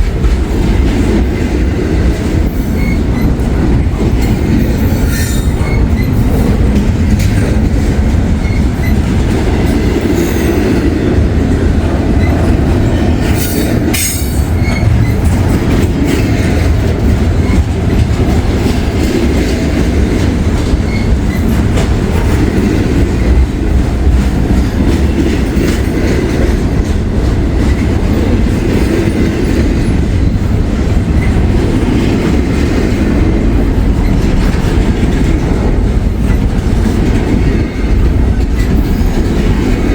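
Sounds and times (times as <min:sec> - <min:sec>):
clacking over rail joints: 0:00.0 - 0:39.9
train wheels rumbling on rail: 0:00.0 - 0:39.9.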